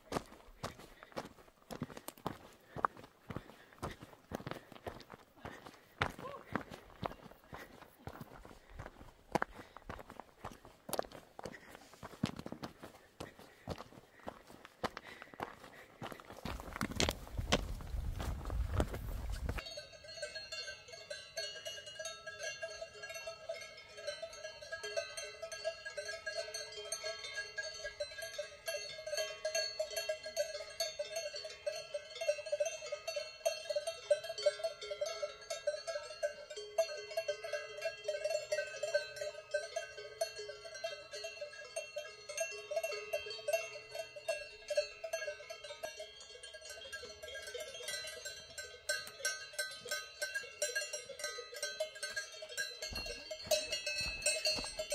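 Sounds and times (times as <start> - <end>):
cowbells clanking: 0.0 - 54.9.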